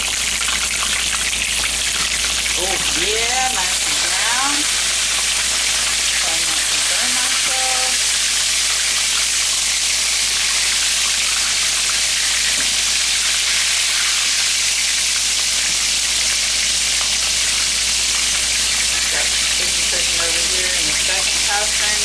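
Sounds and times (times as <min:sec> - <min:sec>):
chicken frying in oil: 0:00.0 - 0:22.0.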